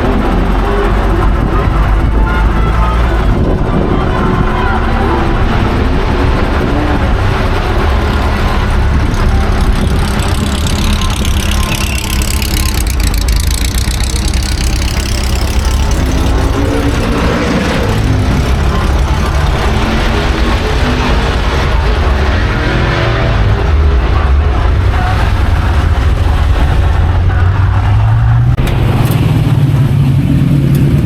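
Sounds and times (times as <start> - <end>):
racing car engines running loud: 0.0 - 31.0.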